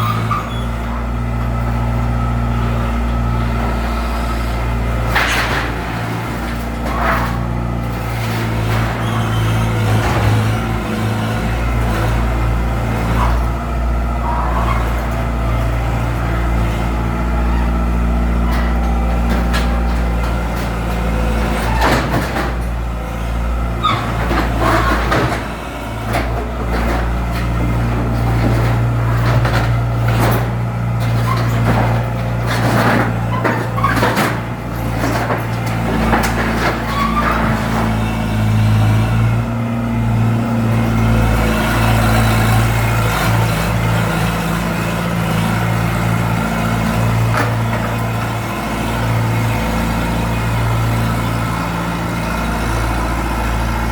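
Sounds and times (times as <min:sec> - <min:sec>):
demolition machine engine running: 0:00.0 - 0:53.9
debris and metal clanking: 0:02.6 - 0:52.3.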